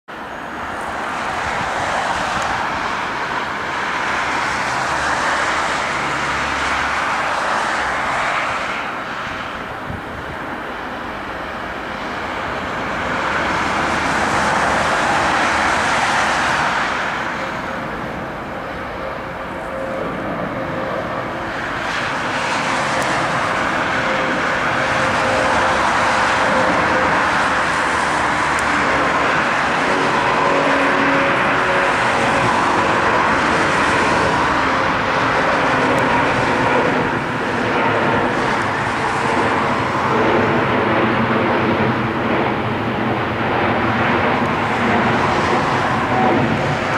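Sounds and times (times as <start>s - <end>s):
jet engine roar: 0.1s - 46.9s.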